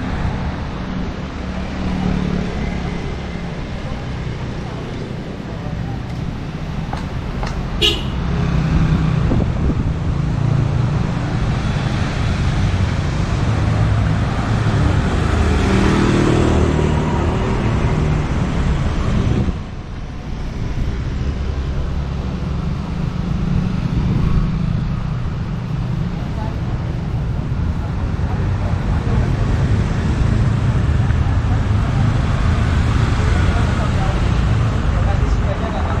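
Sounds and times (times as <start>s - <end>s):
street traffic: 0.0s - 36.0s.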